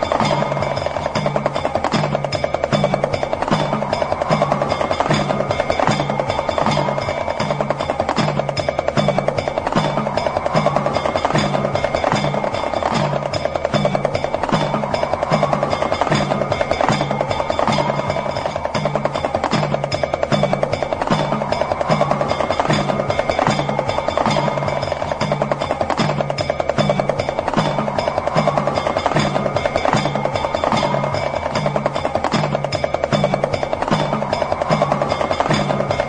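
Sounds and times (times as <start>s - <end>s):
rattle drum rolling: 0.0s - 36.0s.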